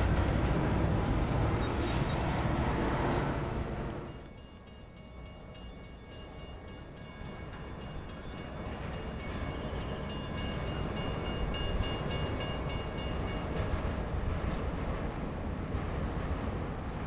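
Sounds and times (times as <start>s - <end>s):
approaching train rumble: 0.0s - 17.0s.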